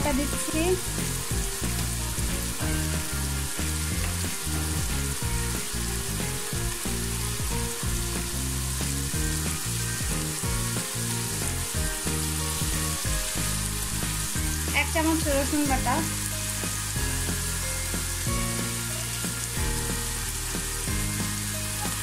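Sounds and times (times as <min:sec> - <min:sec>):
low background music: 0:00.0 - 0:22.0
onions sizzling in oil: 0:00.0 - 0:22.0.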